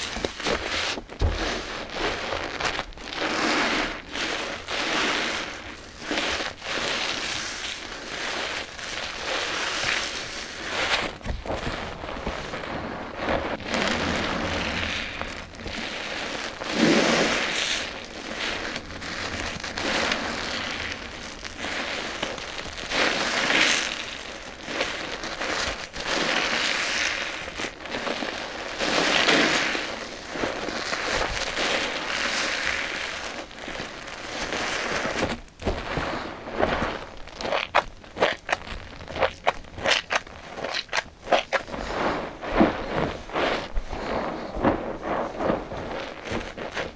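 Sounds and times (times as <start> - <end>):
sponge squelching with foam: 0.0 - 46.9
soapy water running: 1.2 - 33.8, 39.4 - 46.9.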